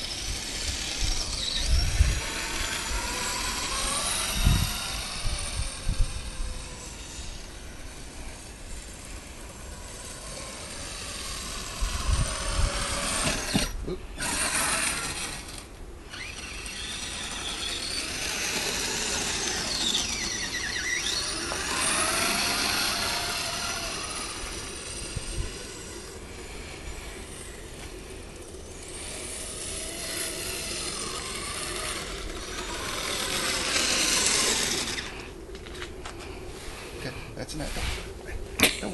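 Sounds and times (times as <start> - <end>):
electric motor and gears whining: 0.0 - 38.4.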